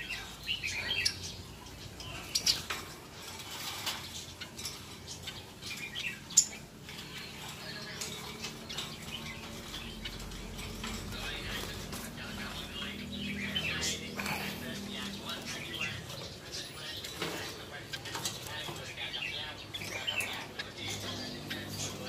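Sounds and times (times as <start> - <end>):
bird chirps: 0.0 - 22.0.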